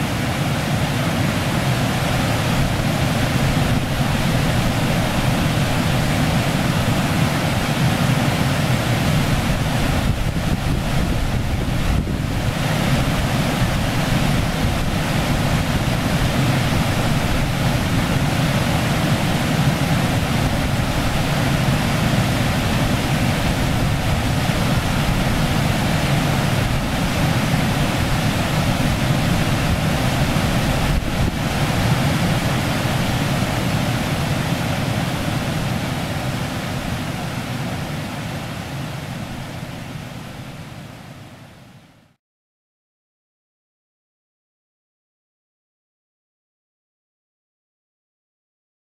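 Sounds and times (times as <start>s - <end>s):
river water rushing over stones: 0.0s - 41.5s.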